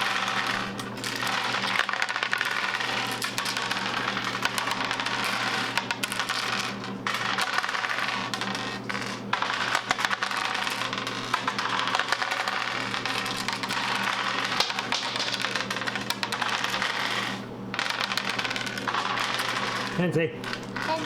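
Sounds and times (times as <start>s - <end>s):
dice clattering on a table: 0.0s - 21.0s.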